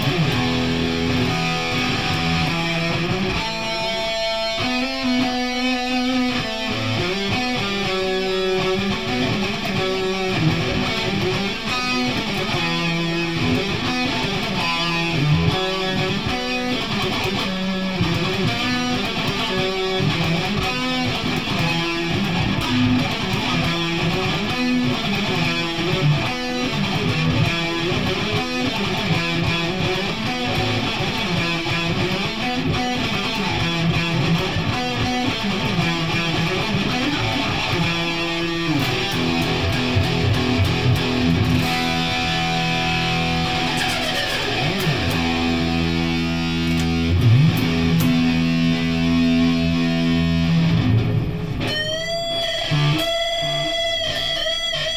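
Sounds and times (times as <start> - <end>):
electric guitar strumming: 0.0 - 54.9.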